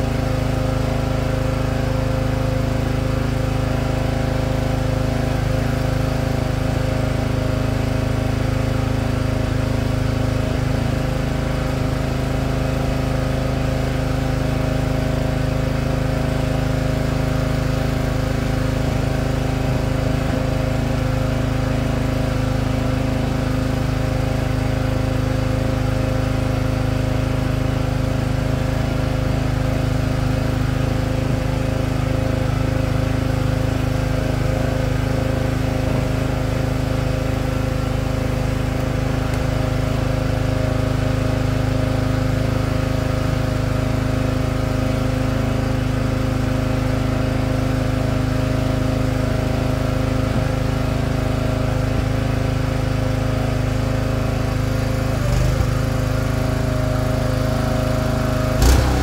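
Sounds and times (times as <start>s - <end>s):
small gasoline engine running: 0.0s - 59.0s.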